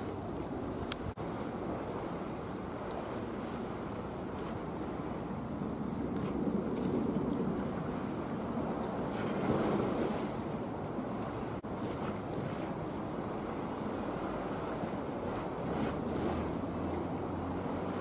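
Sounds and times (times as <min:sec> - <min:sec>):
choppy sea water rushing: 0:00.0 - 0:18.0
wind buffeting microphone: 0:00.0 - 0:18.0.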